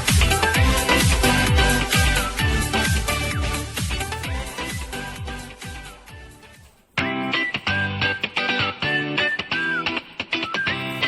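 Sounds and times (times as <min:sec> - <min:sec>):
background guitar music: 0:00.0 - 0:11.0.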